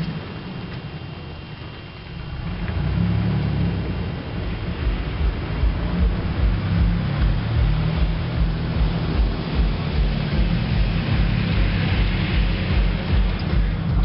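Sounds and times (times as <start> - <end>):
truck exhaust drone: 0.0 - 14.0
wind and road noise: 0.0 - 14.0.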